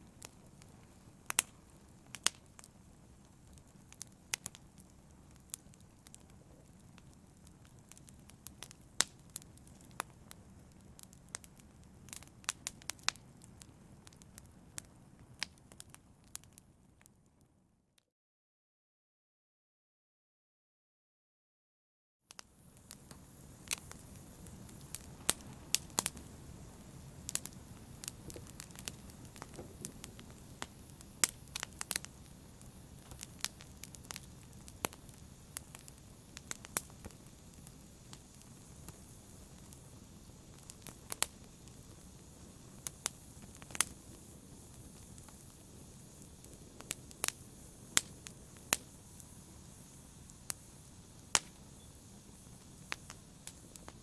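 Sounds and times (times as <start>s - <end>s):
fire rumbling: 0.0s - 17.0s, 22.4s - 54.0s
fire crackles and pops: 0.0s - 17.5s, 22.3s - 54.0s.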